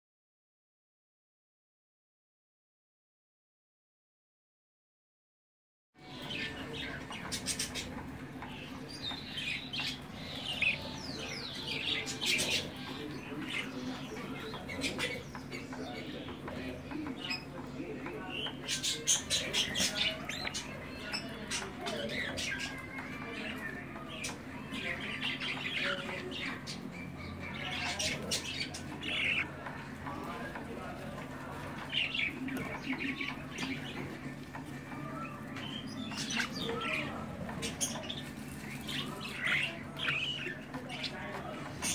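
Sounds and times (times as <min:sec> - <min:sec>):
bird chicks squeaking and chirping: 0:06.0 - 0:41.9.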